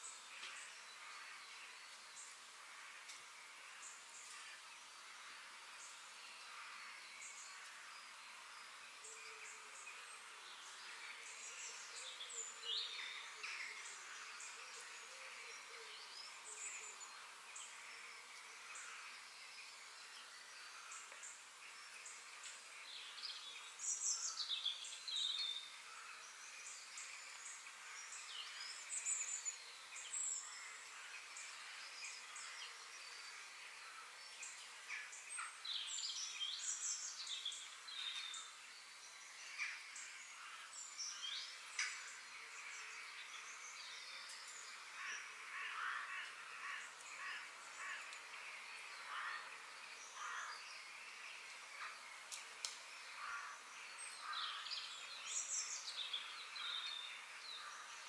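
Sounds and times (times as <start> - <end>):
faint outdoor hiss: 0.0 - 58.0
songbirds singing and chirping: 0.0 - 58.0.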